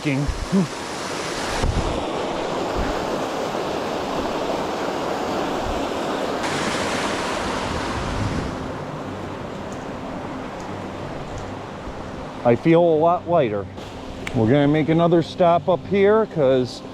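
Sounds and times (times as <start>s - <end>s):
water cascading: 0.0s - 16.1s.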